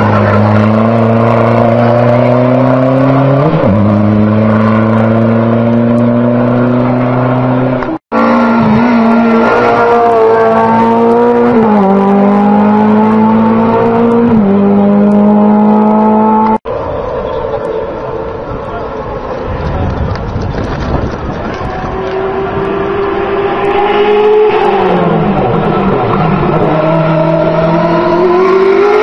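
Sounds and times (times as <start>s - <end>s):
race car engine revving: 0.0s - 19.4s, 20.7s - 29.0s.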